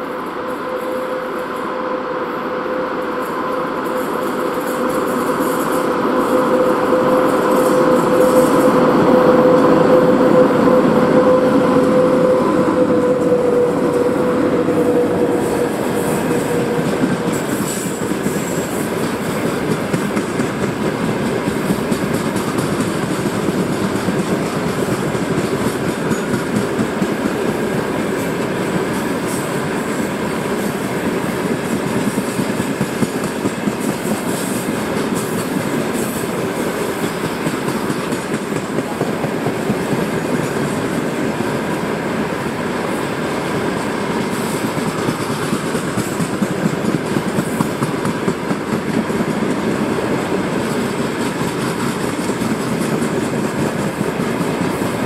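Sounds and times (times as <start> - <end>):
electric locomotive whine: 0.0 - 55.0.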